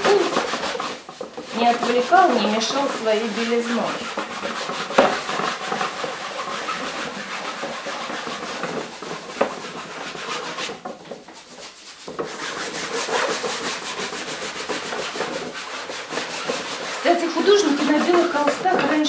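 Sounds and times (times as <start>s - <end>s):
sponge scrubbing on canvas: 0.0s - 19.0s.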